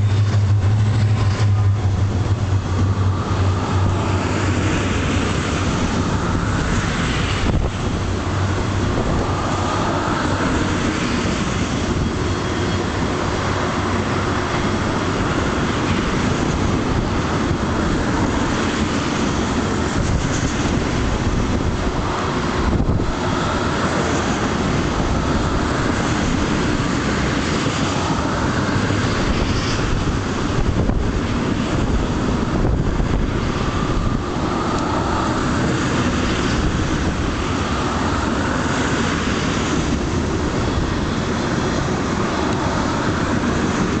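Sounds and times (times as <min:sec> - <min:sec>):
freight train wheels rumbling on track: 0:00.0 - 0:44.0.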